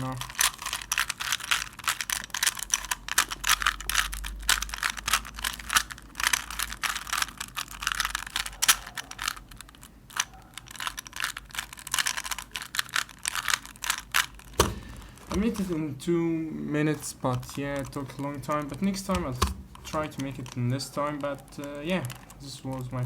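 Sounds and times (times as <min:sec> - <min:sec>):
puzzle cube plastic clicks: 0:00.0 - 0:15.9, 0:16.9 - 0:23.0.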